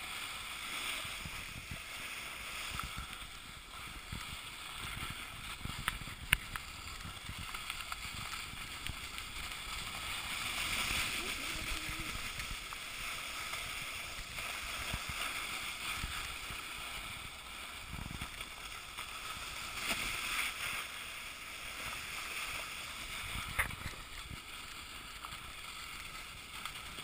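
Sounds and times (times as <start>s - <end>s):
skis scraping on snow: 0.0s - 27.0s.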